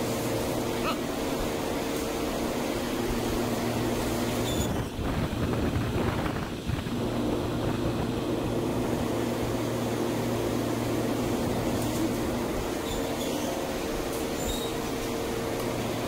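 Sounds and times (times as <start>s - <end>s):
gas burner and blowers roaring: 0.0s - 16.0s.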